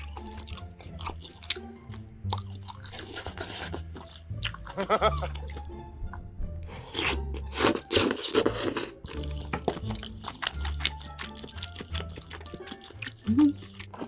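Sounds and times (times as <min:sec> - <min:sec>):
eating mouth sounds: 0:00.0 - 0:05.8, 0:06.6 - 0:14.0
background music: 0:00.0 - 0:14.0.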